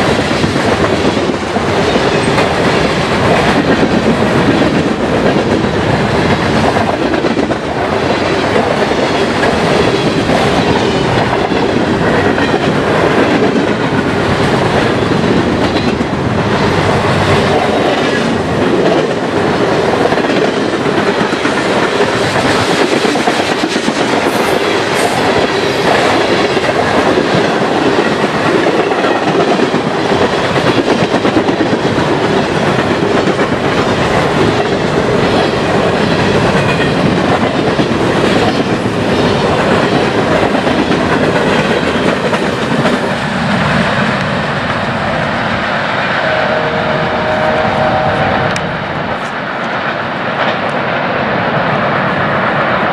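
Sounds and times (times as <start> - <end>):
train wheels rumbling: 0.0 - 52.9.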